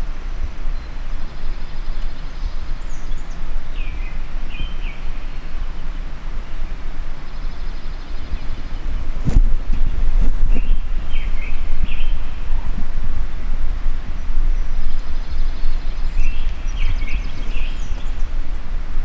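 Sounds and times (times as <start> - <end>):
faint bird calls: 0.0 - 18.6
wind buffeting microphone: 0.0 - 19.0.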